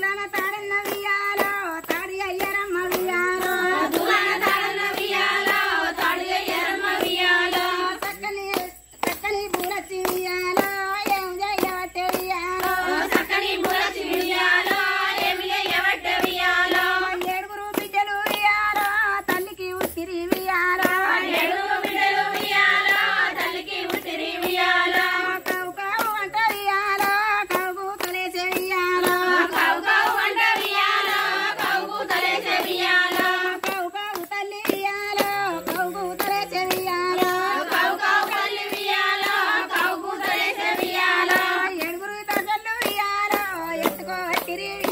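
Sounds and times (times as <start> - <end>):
hands clapping to a beat: 0.0 - 44.9
women singing folk song: 0.0 - 44.9.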